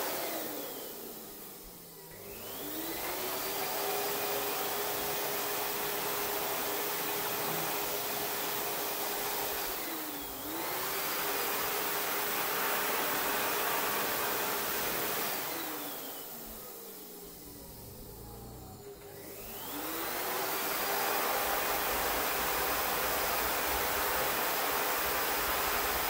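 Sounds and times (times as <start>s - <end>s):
electric air pump whining: 0.0s - 26.0s.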